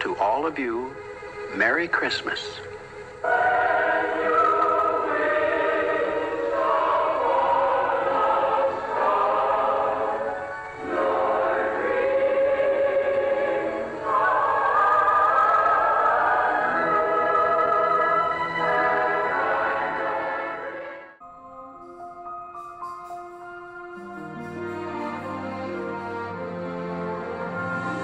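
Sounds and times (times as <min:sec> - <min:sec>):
choir singing held chords: 0:00.0 - 0:28.0.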